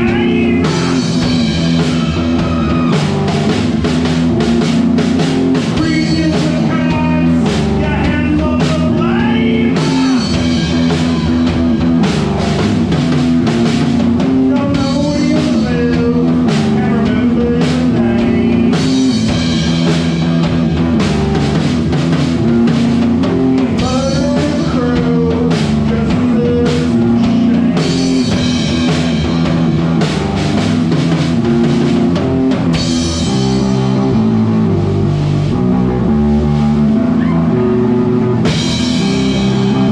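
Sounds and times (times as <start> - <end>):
bass guitar: 0.0 - 39.9
drum kit rock beat: 0.0 - 39.9
electric guitars: 0.0 - 39.9.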